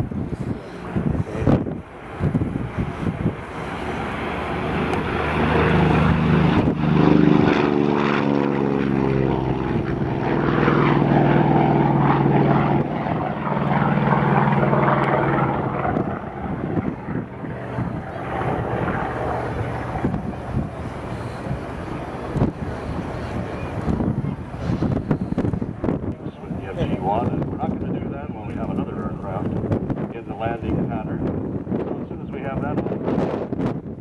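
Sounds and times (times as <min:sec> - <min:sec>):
bomber radial engines droning: 0:00.0 - 0:33.0.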